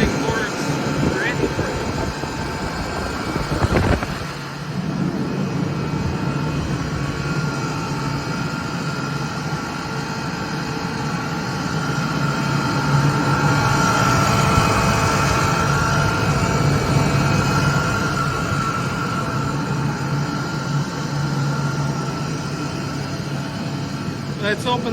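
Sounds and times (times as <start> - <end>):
air compressor humming and whining: 0.0 - 24.9.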